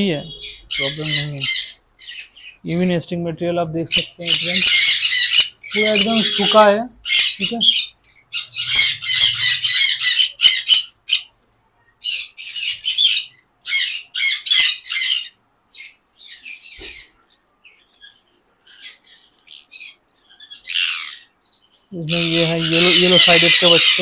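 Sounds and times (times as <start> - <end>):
conures squawking: 0.3 - 3.0, 3.9 - 11.3, 12.0 - 24.0.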